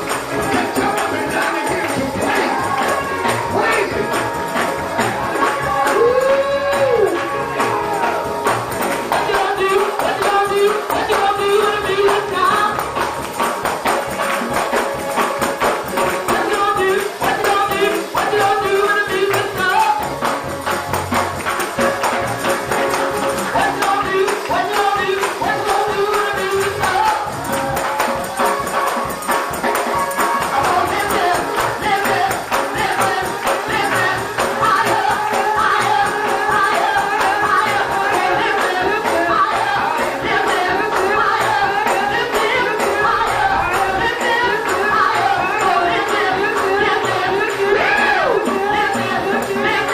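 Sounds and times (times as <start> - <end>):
voices singing: 0.0 - 20.4, 21.8 - 49.9
held chords: 0.0 - 49.9
tambourine rhythm: 0.0 - 49.9.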